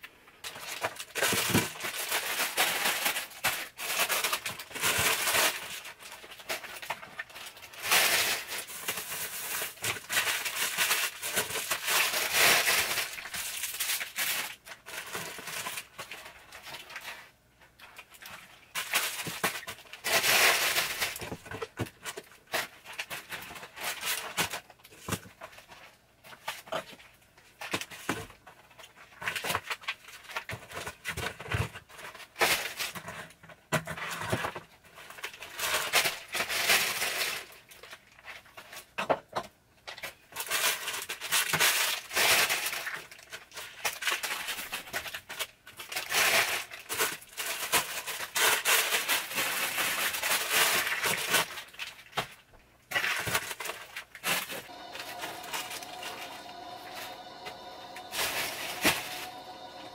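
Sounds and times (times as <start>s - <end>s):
plastic packets crinkling: 0.4s - 33.0s, 39.9s - 59.9s.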